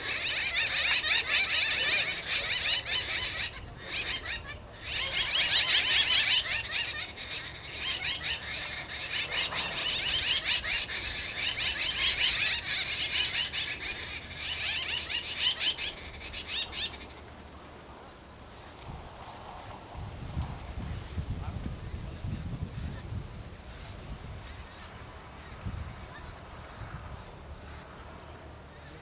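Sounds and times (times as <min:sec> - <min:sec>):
birds chattering: 0:00.0 - 0:18.8, 0:21.4 - 0:29.0.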